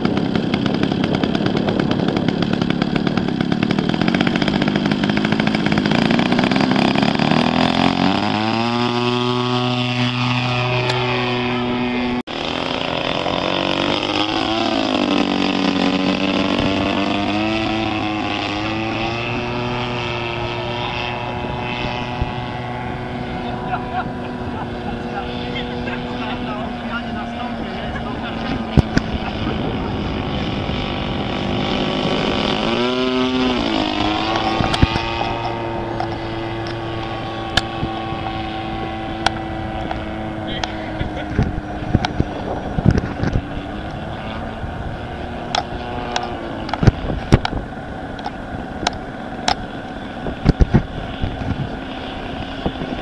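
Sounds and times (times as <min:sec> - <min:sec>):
model airplane engine flying past: 0:00.0 - 0:53.0.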